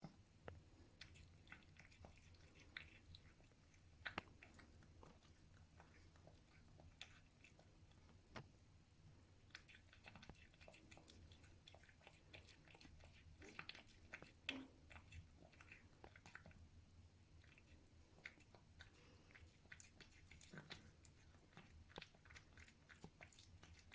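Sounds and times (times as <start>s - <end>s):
cat chewing food: 0.0s - 23.9s.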